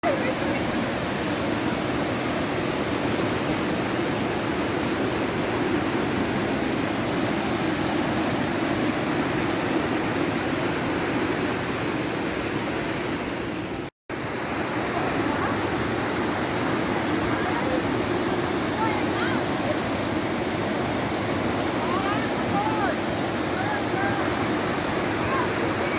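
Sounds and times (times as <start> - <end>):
waterfall pouring: 0.0 - 11.6, 14.2 - 25.9.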